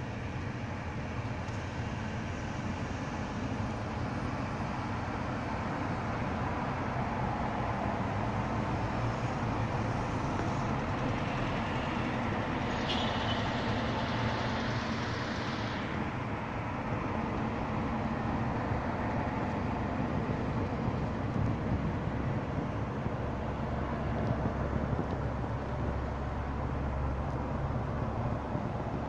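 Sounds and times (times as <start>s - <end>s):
passing vehicle tyre hiss: 0.0s - 29.0s
road traffic noise: 0.0s - 29.0s.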